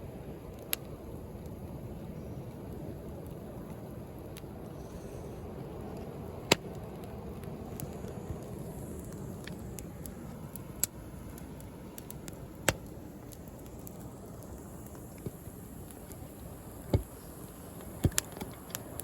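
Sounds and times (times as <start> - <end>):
bonfire crackling: 0.0 - 19.0
sharp pops from fire: 0.3 - 19.0.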